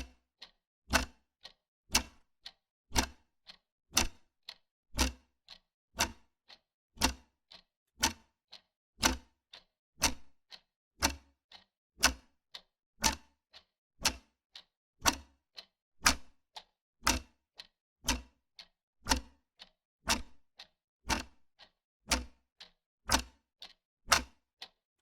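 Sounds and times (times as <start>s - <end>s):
wall clock ticking: 0.4s - 3.3s, 3.9s - 14.4s, 15.0s - 20.4s, 21.1s - 24.8s.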